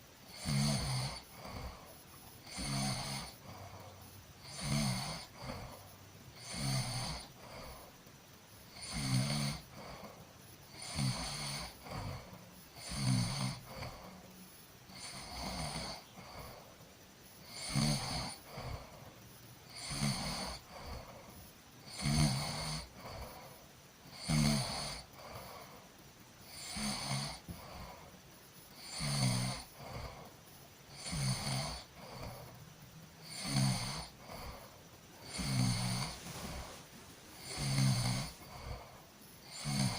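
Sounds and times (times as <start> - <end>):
person snoring: 0.3 - 7.9, 8.7 - 16.8, 17.4 - 25.8, 26.4 - 32.6, 33.2 - 39.9.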